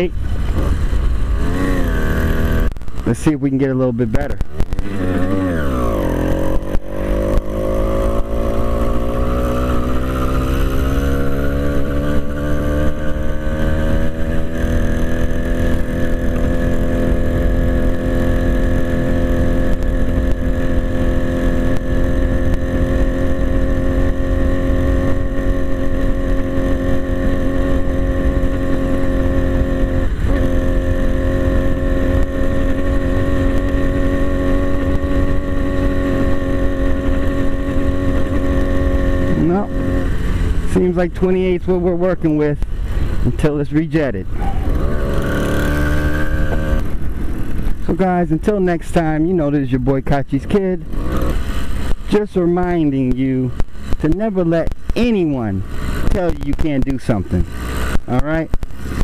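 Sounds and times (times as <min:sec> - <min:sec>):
two-stroke bicycle engine at full throttle: 0:00.0 - 0:59.0.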